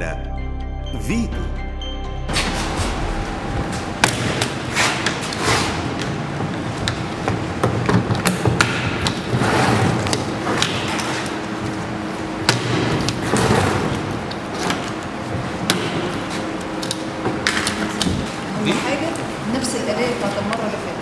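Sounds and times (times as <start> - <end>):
steady background noise: 2.3 - 21.0.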